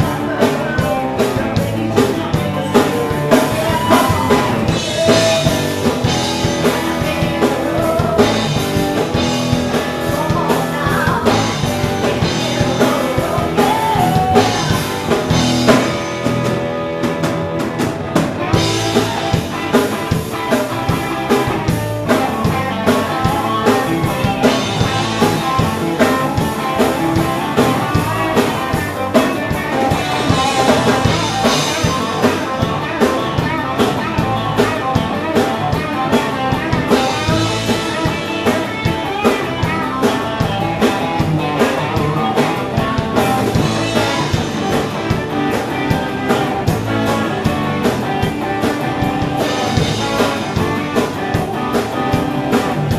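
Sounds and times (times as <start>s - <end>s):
drum kit steady beat: 0.0s - 52.9s
electric guitars: 0.0s - 52.9s.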